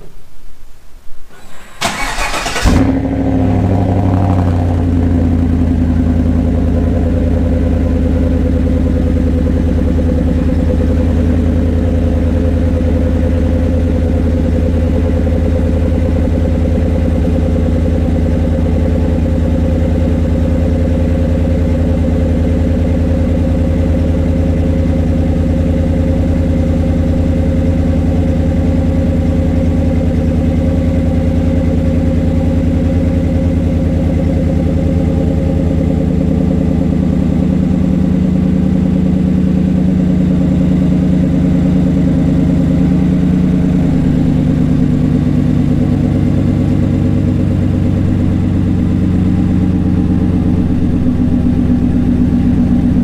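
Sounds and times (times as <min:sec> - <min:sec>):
truck engine idling exhaust: 0:00.0 - 0:53.0.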